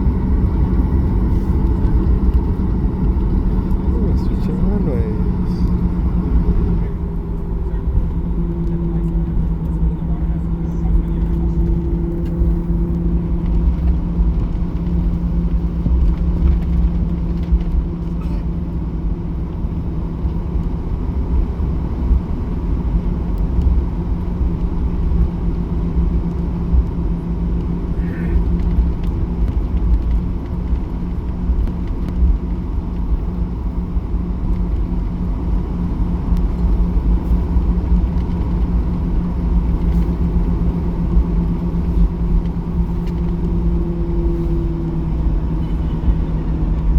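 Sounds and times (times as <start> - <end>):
airplane cabin rumble: 0.0 - 46.9
jet engine hum: 0.0 - 46.9.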